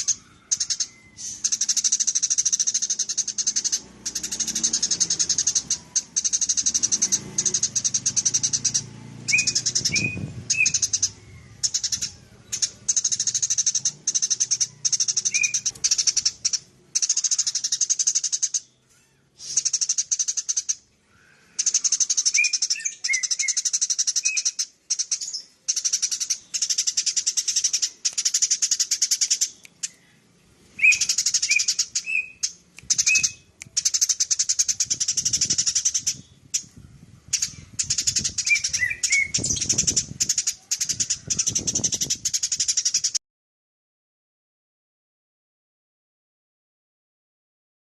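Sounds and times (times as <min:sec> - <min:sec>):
sparrows chirping: 0:00.0 - 0:43.2.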